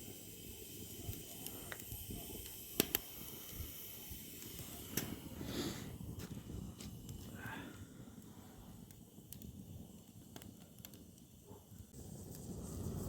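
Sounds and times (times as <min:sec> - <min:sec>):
fire crackles and pops: 0:00.0 - 0:13.0
wood fire burning: 0:00.0 - 0:13.0.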